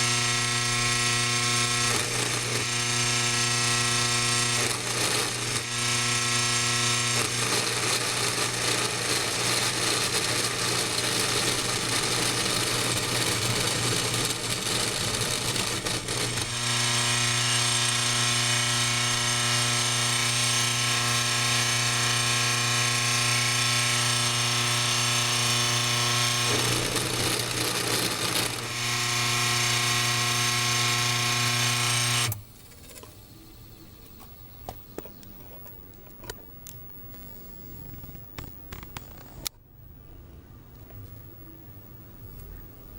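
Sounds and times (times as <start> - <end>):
motor spindle humming: 0.0 - 39.5.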